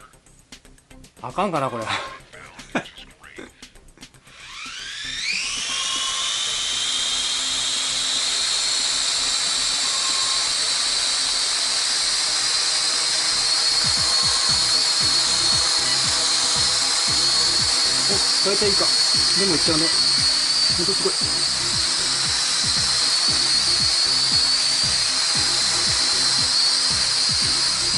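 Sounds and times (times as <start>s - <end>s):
toy quadcopter motors whining: 4.2s - 27.9s.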